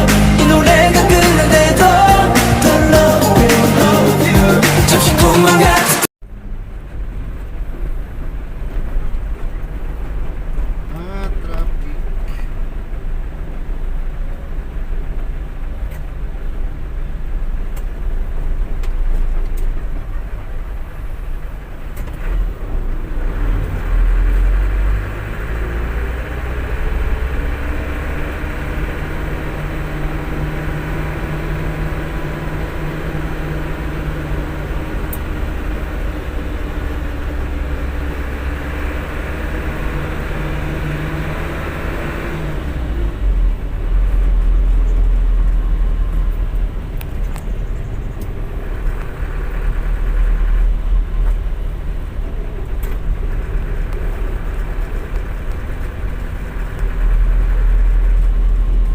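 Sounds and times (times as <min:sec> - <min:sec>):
truck engine rumbling: 0:00.0 - 0:58.9.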